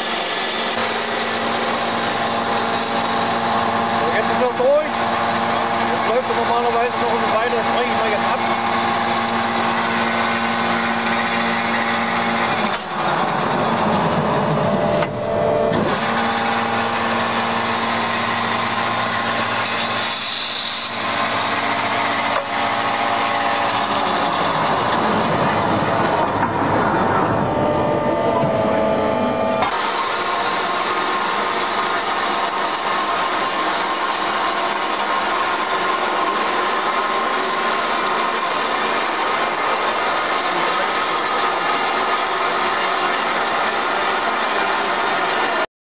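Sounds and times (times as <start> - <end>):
bandsaw hum and whine: 0.0 - 45.7.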